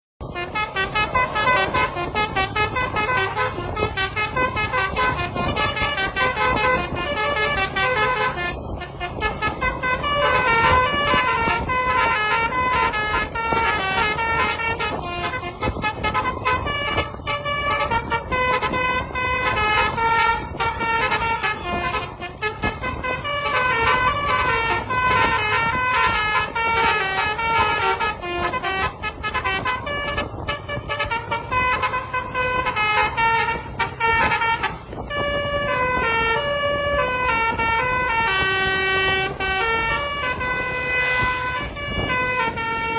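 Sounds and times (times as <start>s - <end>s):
bus horn tooting a tune: 0.2s - 42.9s.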